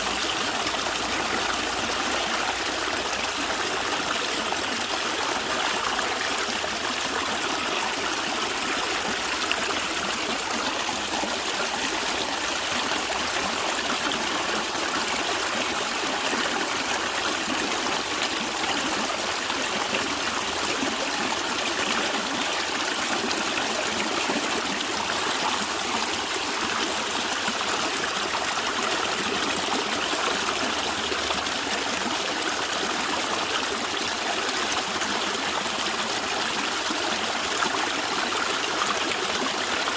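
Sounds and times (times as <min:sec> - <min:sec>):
stream running and gurgling: 0:00.0 - 0:39.9.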